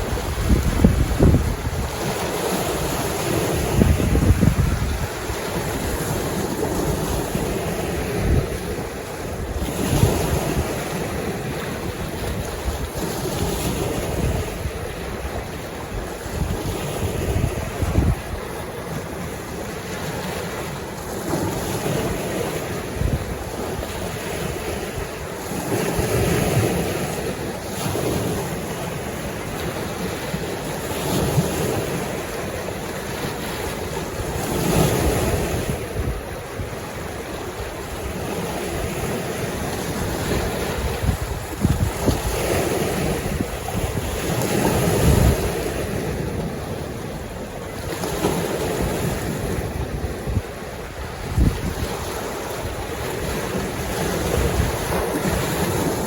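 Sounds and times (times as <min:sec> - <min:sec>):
lake waves washing on shore: 0:00.0 - 0:56.0
wind buffeting microphone: 0:00.0 - 0:56.0.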